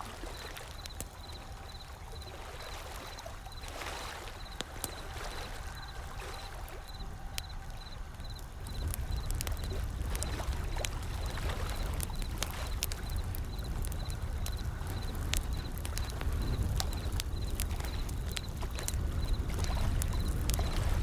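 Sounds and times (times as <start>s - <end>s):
ocean waves: 0.0s - 21.0s
wood fire crackling and popping: 0.0s - 21.0s.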